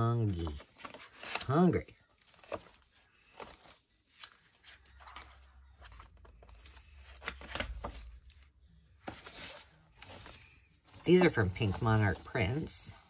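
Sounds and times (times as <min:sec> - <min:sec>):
paper rustling and crinkling: 0:00.0 - 0:12.8.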